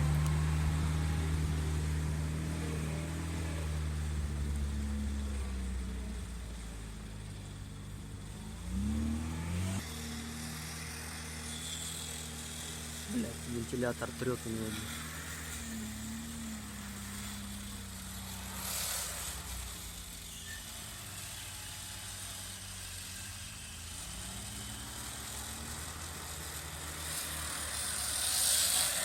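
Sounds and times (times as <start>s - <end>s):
engine running at low revs: 0.0s - 29.0s.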